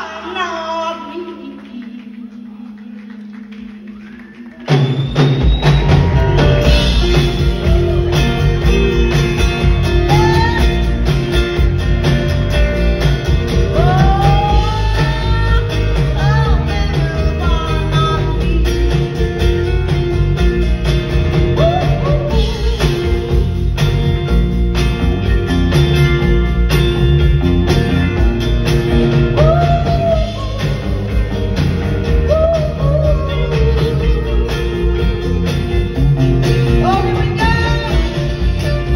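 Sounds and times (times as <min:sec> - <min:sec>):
electric guitars: 0:01.0 - 0:38.9
drum kit: 0:04.5 - 0:38.9
upright bass: 0:05.4 - 0:38.9.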